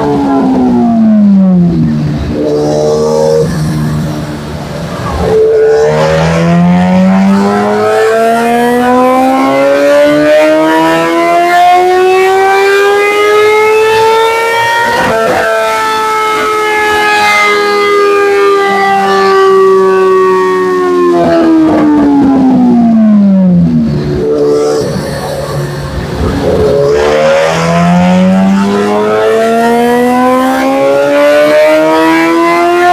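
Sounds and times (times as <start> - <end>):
motorcycle engine revving under load: 0.0 - 32.9.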